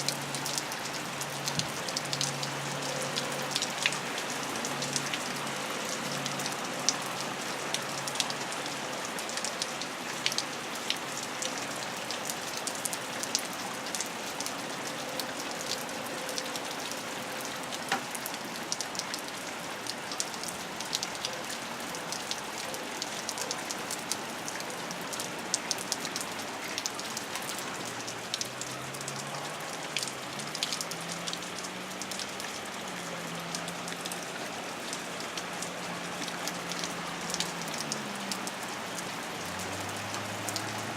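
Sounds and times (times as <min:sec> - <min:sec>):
steady rain with drips: 0:00.0 - 0:40.9.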